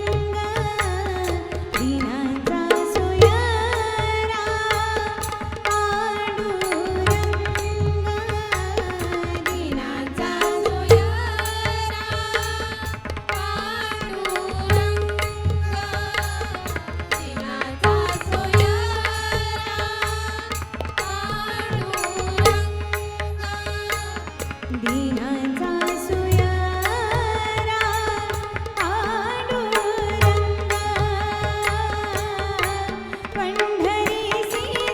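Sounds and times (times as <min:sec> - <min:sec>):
tabla and pakhawaj drumming: 0:00.0 - 0:34.9.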